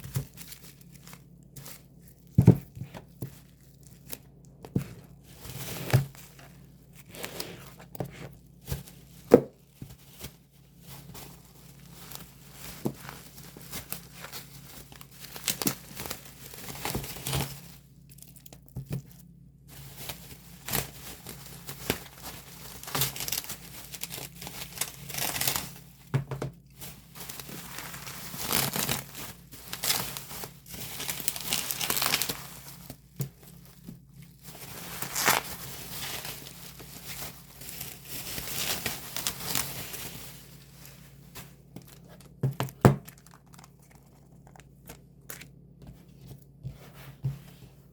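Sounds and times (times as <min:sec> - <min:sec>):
plastic wrap tearing and crinkling: 0:00.0 - 0:45.6.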